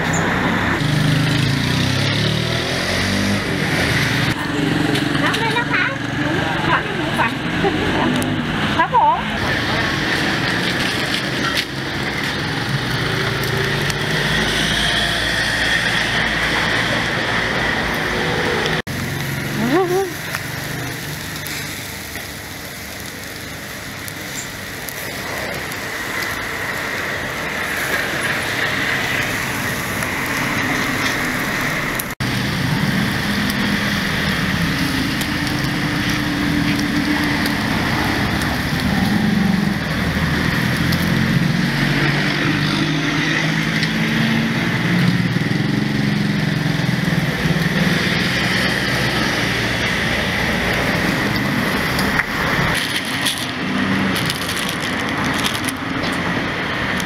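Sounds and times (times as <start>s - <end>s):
road traffic passing: 0.0s - 57.0s
skewers sizzling on charcoal grill: 0.0s - 57.0s.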